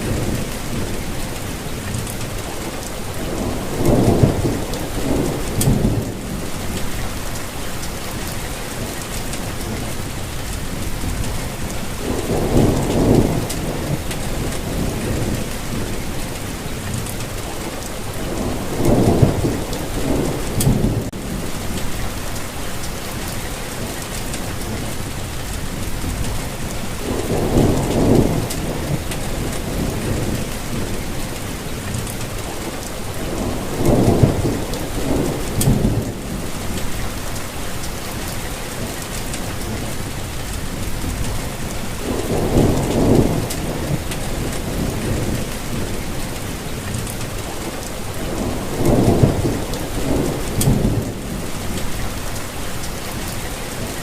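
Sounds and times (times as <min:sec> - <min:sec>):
rainfall hissing: 0:00.0 - 0:54.0.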